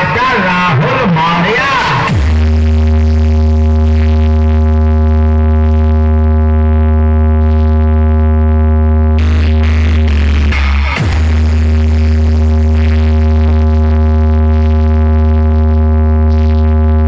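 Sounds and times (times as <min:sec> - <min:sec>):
loud electronic music: 0:00.0 - 0:17.0
deep bass note: 0:01.8 - 0:17.0.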